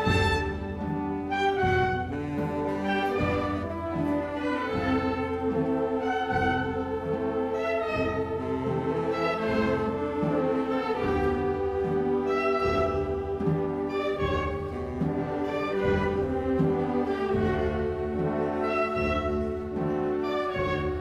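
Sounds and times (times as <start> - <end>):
slow ensemble music: 0.0 - 21.0.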